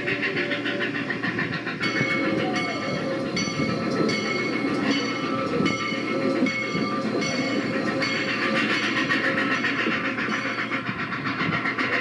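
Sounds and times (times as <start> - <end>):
toy train wheels clattering: 0.0 - 12.0.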